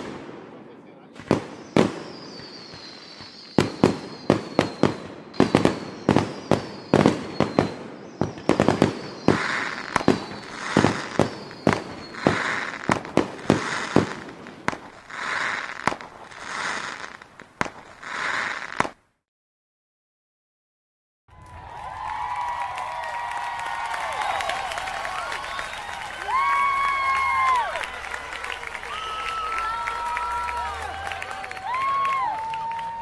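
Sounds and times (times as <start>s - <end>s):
fireworks bangs and cracks: 0.0s - 19.0s, 21.3s - 33.0s
hissing crackle of fireworks: 0.0s - 19.0s, 21.6s - 33.0s
falling firework whistles: 1.2s - 19.0s, 23.8s - 33.0s.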